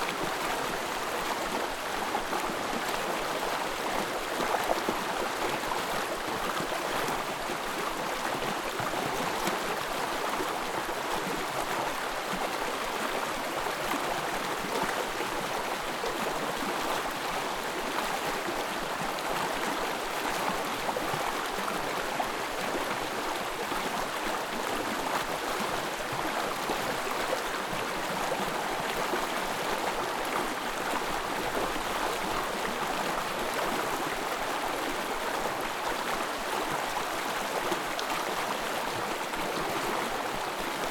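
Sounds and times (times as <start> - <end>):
forest stream flowing: 0.0 - 40.9.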